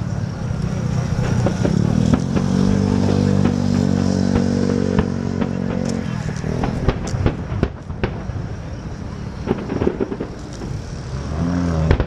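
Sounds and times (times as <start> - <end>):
fireworks popping and crackling: 0.0 - 12.0
vehicle engine running: 0.0 - 12.0.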